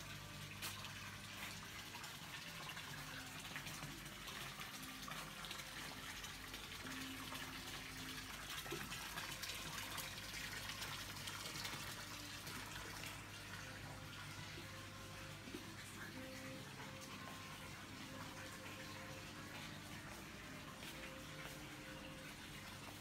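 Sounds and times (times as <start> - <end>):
water pouring into pool: 0.0 - 20.2.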